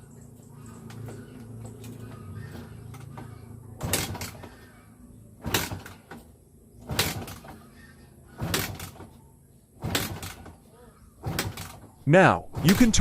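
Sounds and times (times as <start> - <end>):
motorcycle kick-starter strokes: 0.4 - 4.8, 5.4 - 7.7, 8.3 - 9.2, 9.8 - 13.0.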